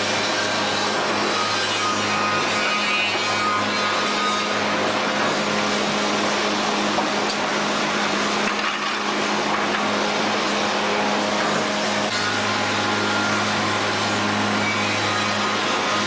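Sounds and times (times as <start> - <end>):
factory machinery running: 0.0 - 16.0.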